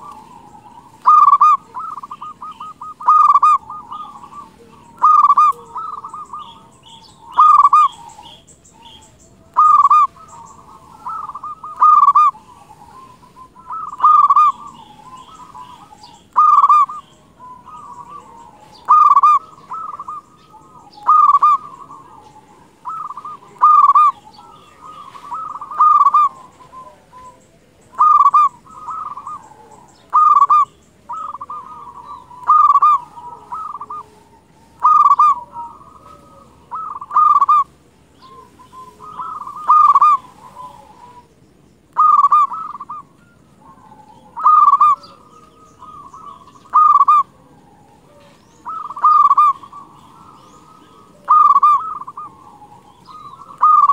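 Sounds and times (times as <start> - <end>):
doves cooing: 0.0 - 53.9.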